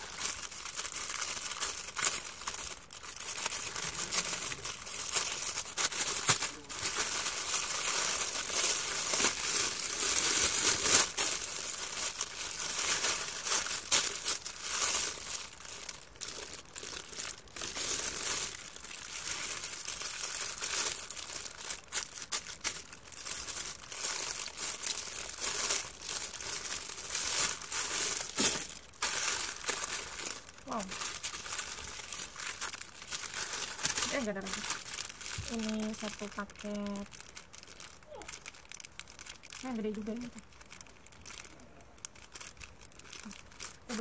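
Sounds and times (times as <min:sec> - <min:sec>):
plastic packaging crinkling: 0:00.0 - 0:44.0.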